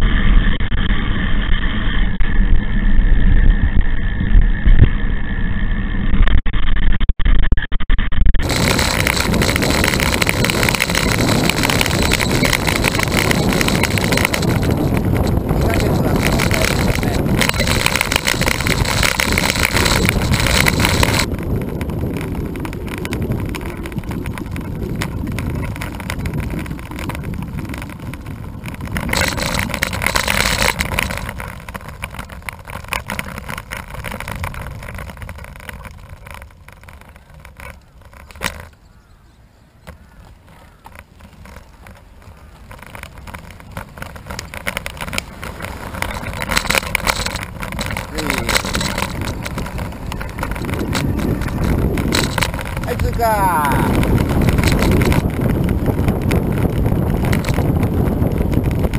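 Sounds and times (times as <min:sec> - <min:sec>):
wind on microphone: 0:00.0 - 0:07.0, 0:08.4 - 0:58.9
bike tyres on asphalt: 0:00.0 - 0:58.9.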